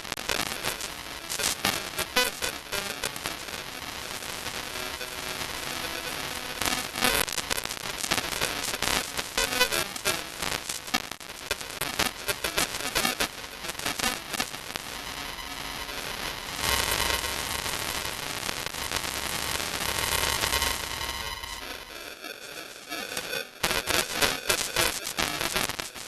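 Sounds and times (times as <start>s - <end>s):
dense crackling and clicks: 0.0s - 26.0s.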